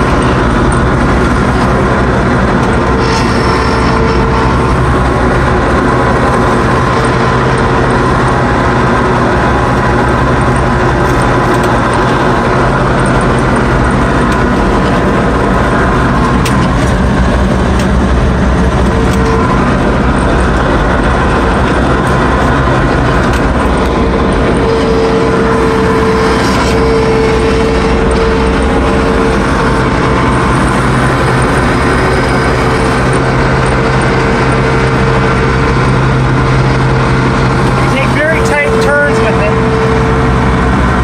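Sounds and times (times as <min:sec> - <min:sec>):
diesel mower engine running: 0:00.0 - 0:41.0
steady whine: 0:00.0 - 0:41.0.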